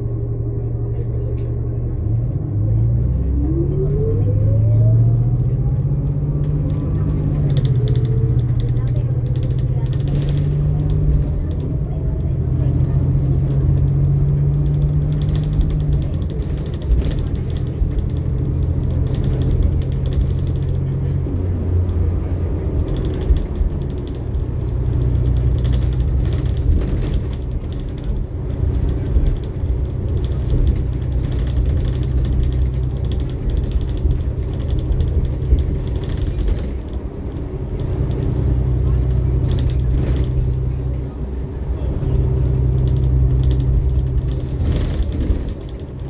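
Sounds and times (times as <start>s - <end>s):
bus engine running: 0.0s - 46.0s
rattles and clicks: 6.2s - 46.0s.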